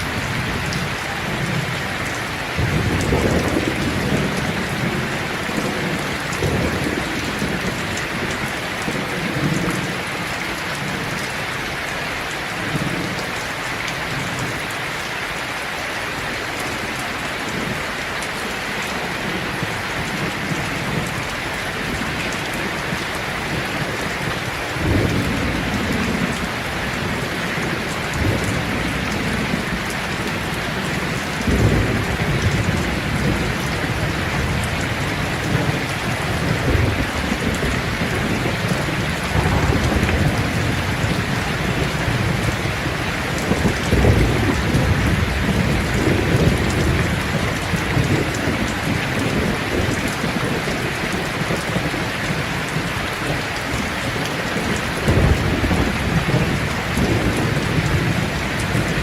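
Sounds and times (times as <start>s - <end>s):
thunder rumbling: 0.0s - 11.4s, 16.7s - 59.0s
steady rain falling: 0.0s - 59.0s.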